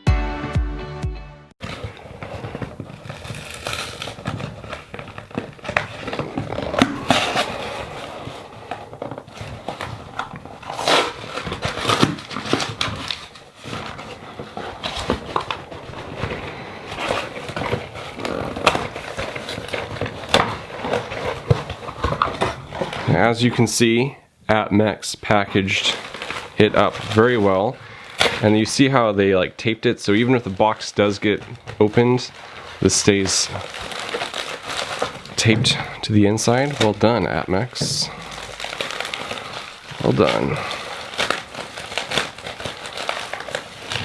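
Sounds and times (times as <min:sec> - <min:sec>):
tape ripping: 0:01.6 - 0:23.3, 0:25.7 - 0:29.0, 0:30.0 - 0:44.0
cardboard and packing crinkling: 0:01.6 - 0:44.0.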